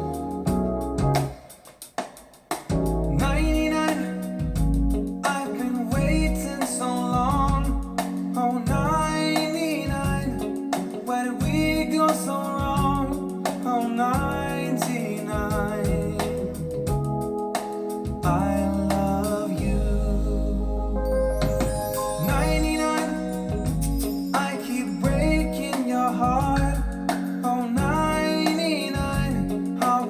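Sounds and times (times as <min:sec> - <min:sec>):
jazz-pop song with band: 0:00.0 - 0:30.0
man singing: 0:03.1 - 0:04.6, 0:05.2 - 0:16.8, 0:18.2 - 0:30.0.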